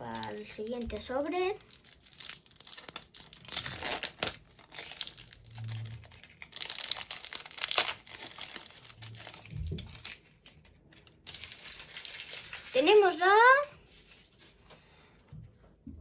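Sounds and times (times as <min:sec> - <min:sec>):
foil wrapper crinkling and tearing: 0:00.0 - 0:14.5.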